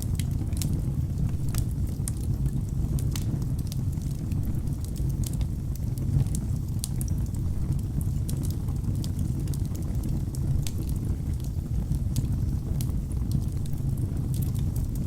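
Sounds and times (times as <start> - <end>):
fire flames roaring: 0.0 - 15.0
logs crackling and popping: 0.0 - 15.0.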